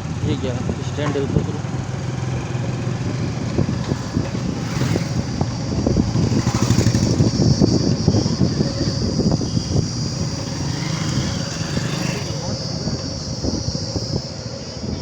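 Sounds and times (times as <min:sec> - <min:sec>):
motorcycle engine running: 0:00.0 - 0:14.8
wind buffeting microphone: 0:00.0 - 0:15.0.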